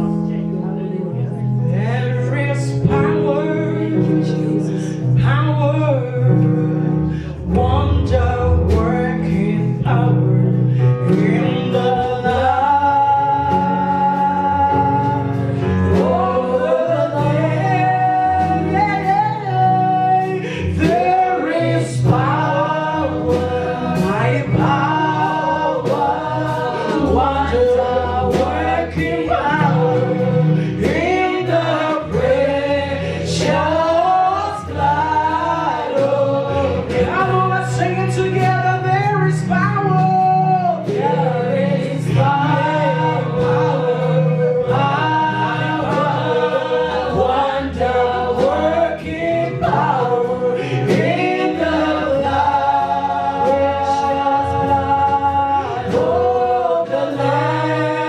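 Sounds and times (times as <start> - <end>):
sustained low bass notes: 0.0 - 58.0
group gospel singing: 1.1 - 58.0.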